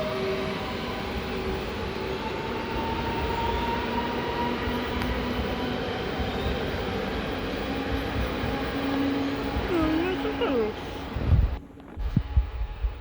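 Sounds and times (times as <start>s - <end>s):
faint whining tones: 0.0s - 13.0s
train rumbling: 0.0s - 13.0s.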